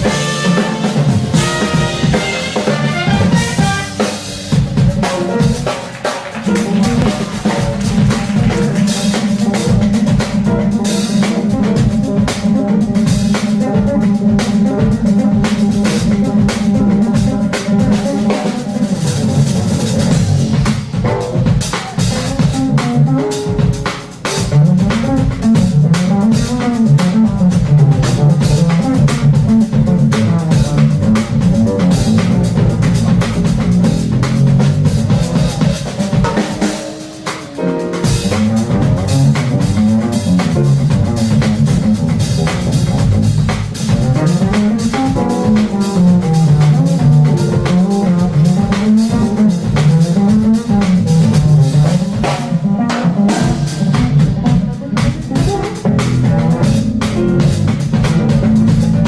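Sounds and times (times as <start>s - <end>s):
drum kit: 0.0s - 59.0s
live jazz band: 0.0s - 59.0s
upright double bass: 0.0s - 59.0s.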